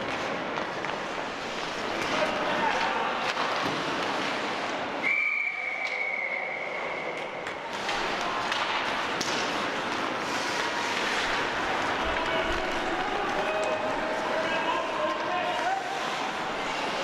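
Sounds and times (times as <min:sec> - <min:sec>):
ice rink noise: 0:00.0 - 0:17.0.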